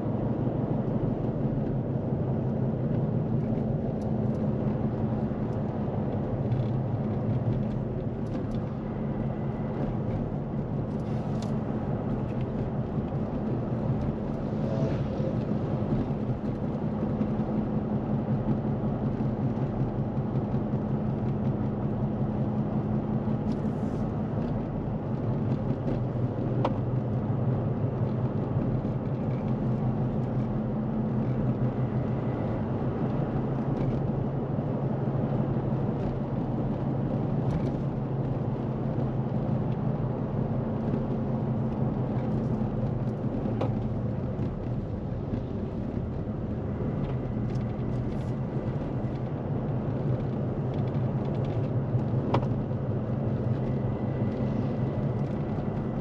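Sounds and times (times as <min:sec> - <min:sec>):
low engine drone: 0:00.0 - 0:18.9, 0:22.3 - 0:56.0
road noise: 0:00.0 - 0:56.0.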